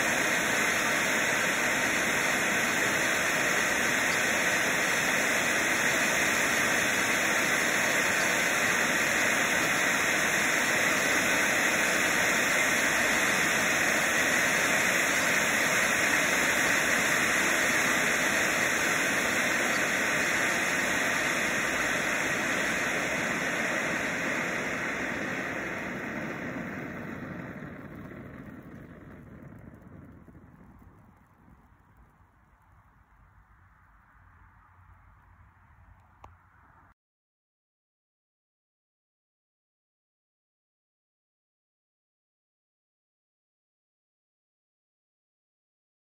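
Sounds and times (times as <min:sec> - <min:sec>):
firework fountain hissing: 0:00.0 - 0:36.9.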